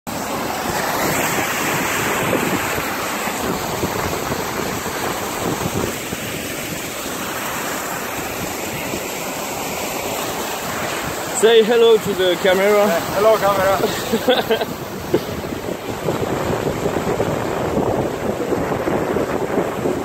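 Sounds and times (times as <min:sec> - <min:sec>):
water splashing along hull: 0:00.1 - 0:20.0
wind buffeting microphone: 0:00.1 - 0:20.0.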